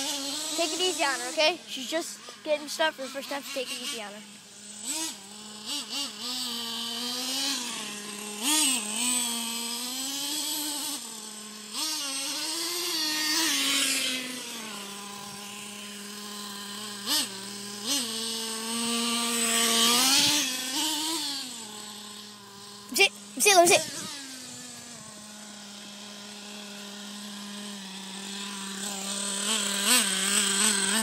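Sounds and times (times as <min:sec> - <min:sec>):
two-stroke nitro engine revving: 0:00.0 - 0:31.0.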